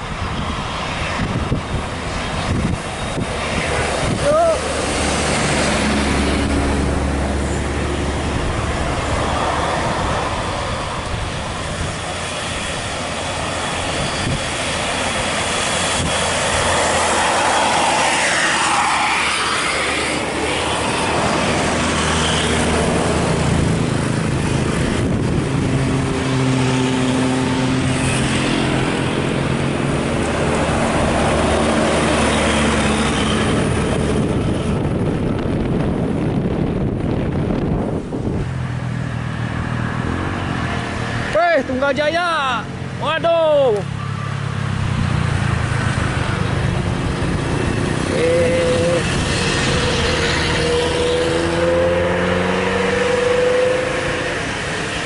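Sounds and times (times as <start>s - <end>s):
heavy vehicles driving past: 0.0s - 55.0s
steady engine drone: 0.0s - 55.0s.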